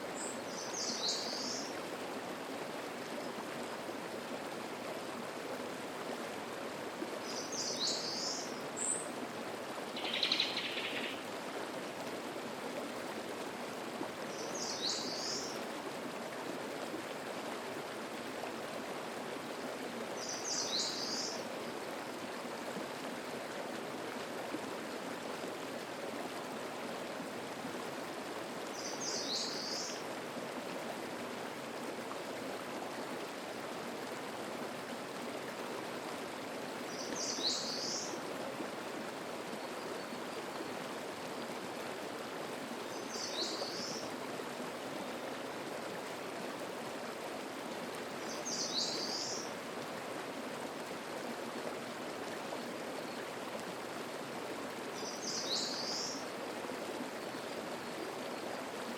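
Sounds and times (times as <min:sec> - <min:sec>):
stream babbling over rocks: 0:00.0 - 0:58.9.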